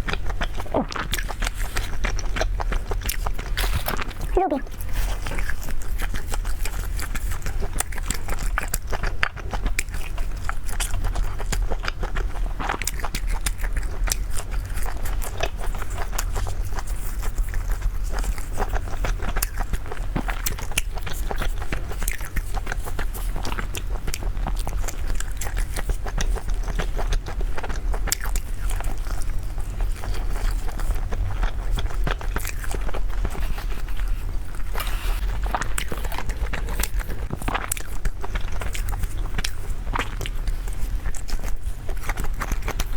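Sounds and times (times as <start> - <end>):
chewing and biting food: 0.0 - 42.9
steady low hum: 0.0 - 42.9.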